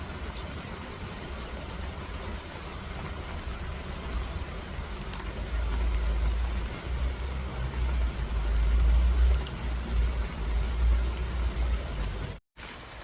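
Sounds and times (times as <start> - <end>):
rain hissing: 0.0 - 13.0
faint drips: 0.2 - 13.0.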